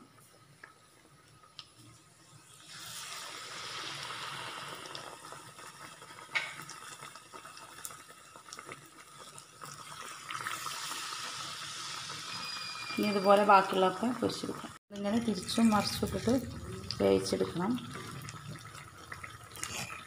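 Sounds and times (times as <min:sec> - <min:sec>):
hot oil sizzling and bubbling: 0:00.0 - 0:20.0.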